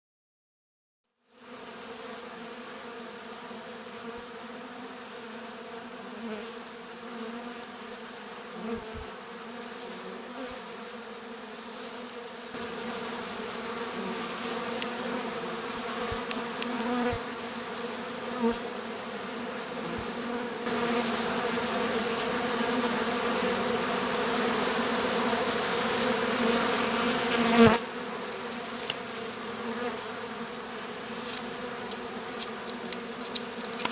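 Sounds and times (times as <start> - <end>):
bees humming in a hive: 1.3 - 33.9.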